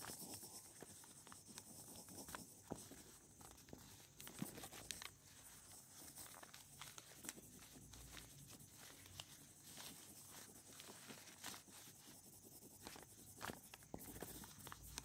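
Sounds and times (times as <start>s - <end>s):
pen scratching on paper: 0.0s - 15.0s.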